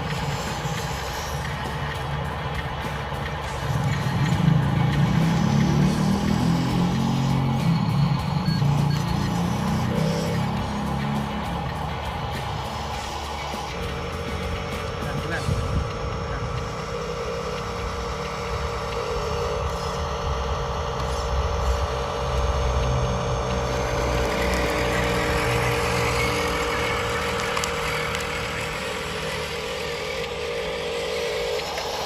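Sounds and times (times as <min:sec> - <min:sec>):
toy vehicles mechanical hum: 0:00.0 - 0:32.0.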